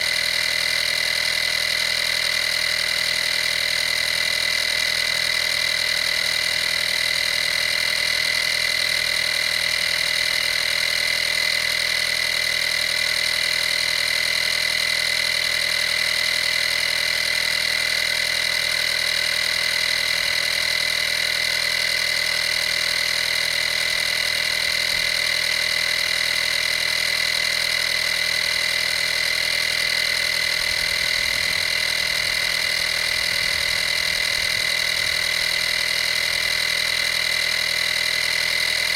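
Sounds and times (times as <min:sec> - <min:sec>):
air compressor whining: 0:00.0 - 0:38.9.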